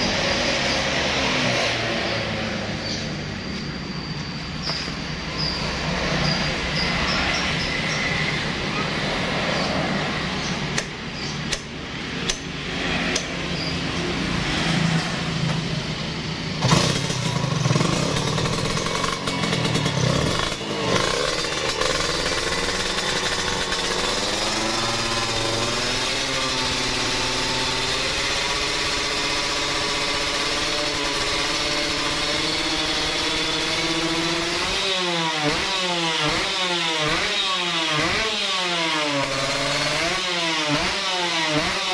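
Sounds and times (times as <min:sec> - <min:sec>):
two-stroke engine revving and idling: 0:00.0 - 0:41.9.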